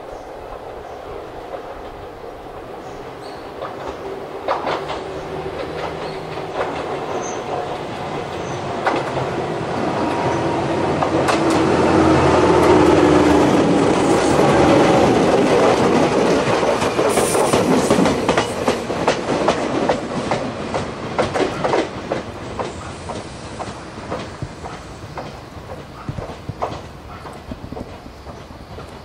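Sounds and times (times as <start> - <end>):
train wheels clicking over rail joints: 0.5 - 29.0.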